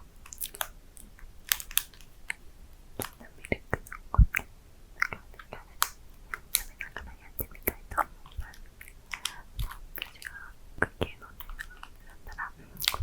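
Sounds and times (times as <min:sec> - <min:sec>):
wet mouth clicks and lip smacks: 0:00.3 - 0:02.4, 0:03.0 - 0:13.0.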